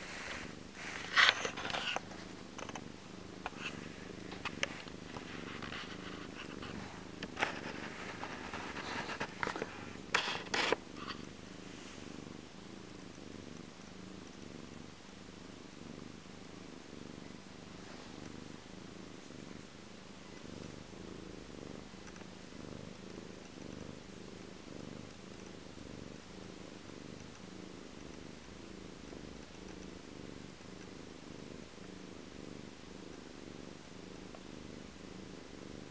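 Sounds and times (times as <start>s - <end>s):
cat purring: 0.0s - 35.9s.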